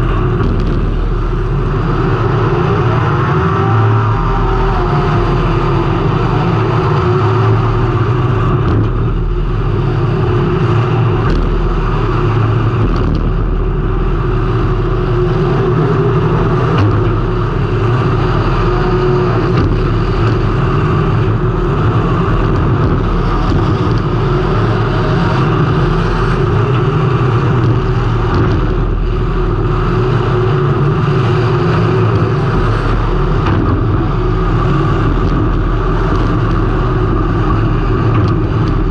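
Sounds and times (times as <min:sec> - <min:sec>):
race car engine droning: 0:00.0 - 0:38.9.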